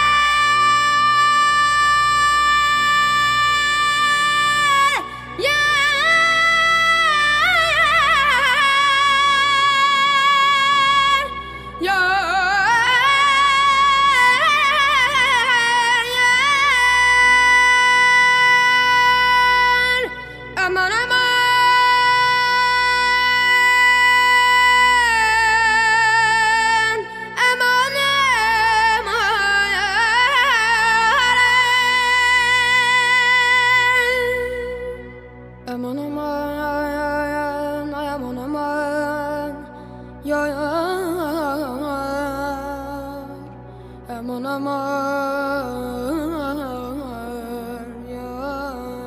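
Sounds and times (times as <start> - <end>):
solo voice singing: 0.0 - 49.0.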